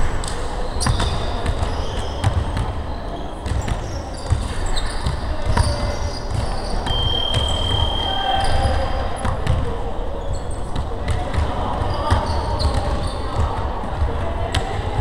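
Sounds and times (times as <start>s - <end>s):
sneakers squeaking on court: 0.6s - 13.5s.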